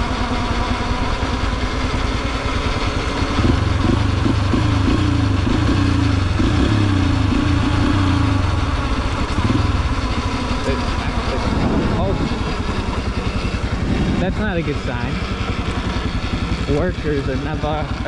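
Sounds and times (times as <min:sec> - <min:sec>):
dirt bike engine accelerating: 0:00.0 - 0:18.0.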